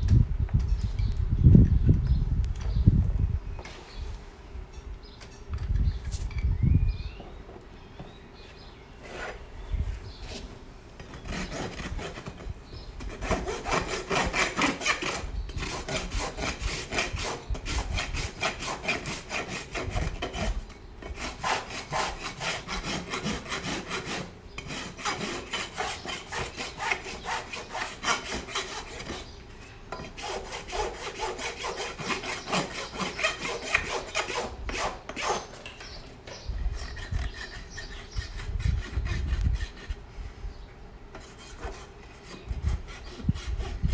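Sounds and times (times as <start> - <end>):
rasp scraping a hoof: 8.5 - 43.9.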